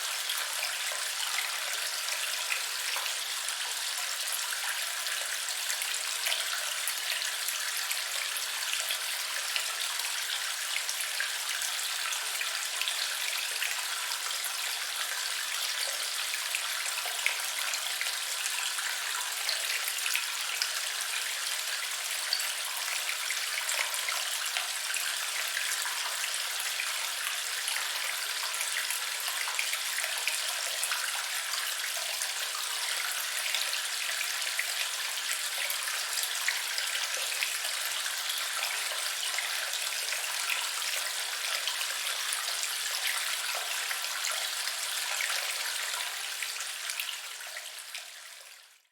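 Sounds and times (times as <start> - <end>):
water splashes and drips: 0.0 - 48.9.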